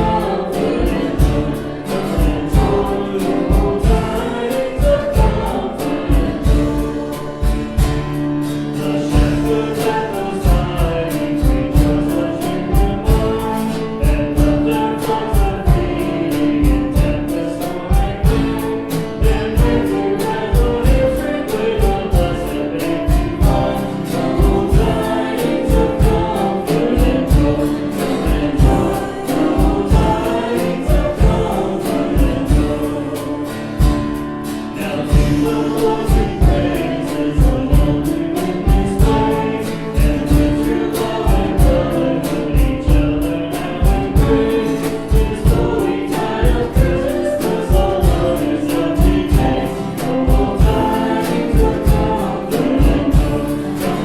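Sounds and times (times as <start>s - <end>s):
group singing worship song: 0.0s - 54.0s
instrumental backing with beat: 0.0s - 54.0s.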